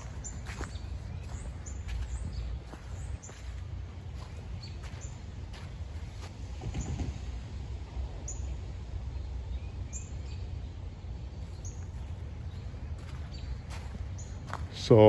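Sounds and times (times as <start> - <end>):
small birds chirping: 0.0 - 6.3, 9.2 - 15.0
steady low rumble: 0.0 - 15.0.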